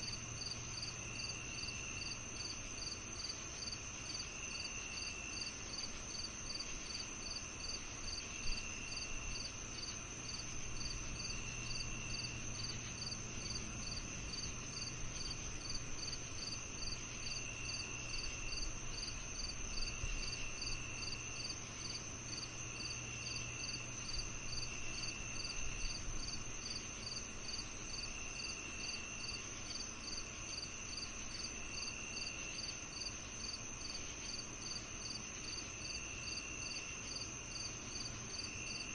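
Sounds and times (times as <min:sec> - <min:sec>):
crickets chirping: 0:00.0 - 0:38.9
insect high drone: 0:00.0 - 0:38.9
low insect trill: 0:00.0 - 0:38.9.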